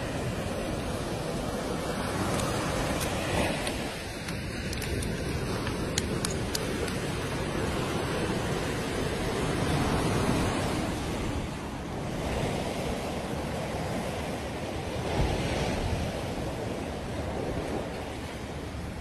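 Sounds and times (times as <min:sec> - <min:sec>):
sea surf breaking on beach: 0:00.0 - 0:19.0.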